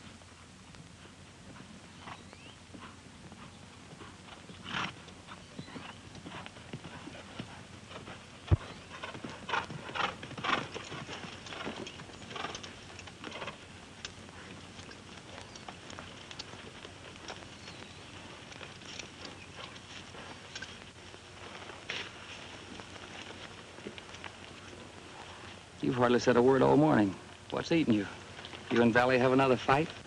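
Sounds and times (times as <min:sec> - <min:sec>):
horse hooves clip-clopping on dirt: 0:00.0 - 0:30.0.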